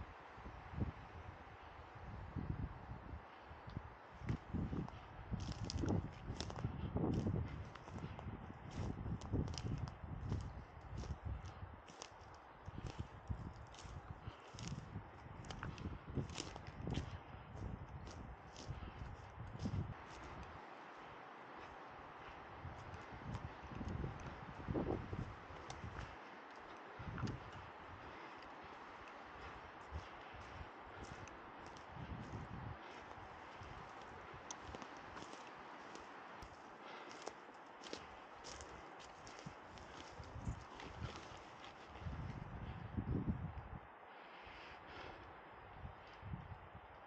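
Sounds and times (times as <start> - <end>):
footsteps in undergrowth: 3.7 - 42.8.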